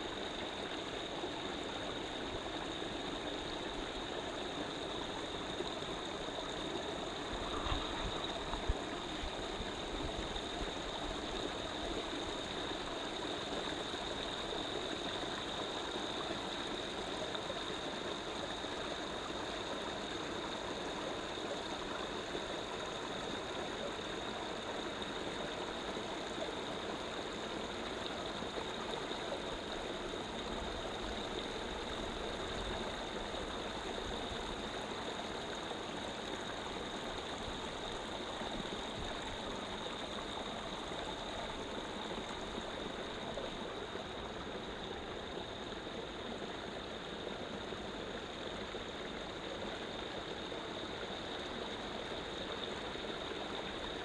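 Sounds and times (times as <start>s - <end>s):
stream rushing and gurgling: 0.0s - 54.0s.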